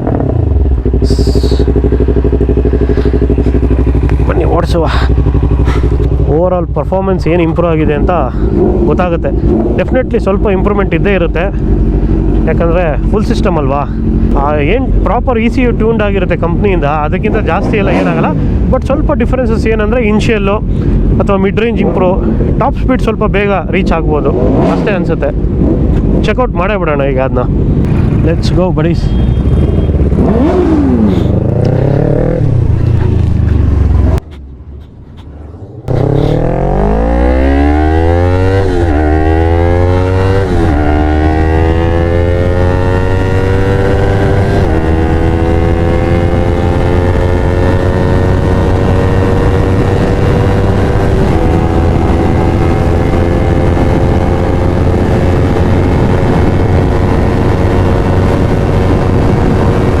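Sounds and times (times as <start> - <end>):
motorcycle engine revving: 0.0 - 19.8, 23.9 - 26.3, 29.0 - 34.4, 35.2 - 60.0.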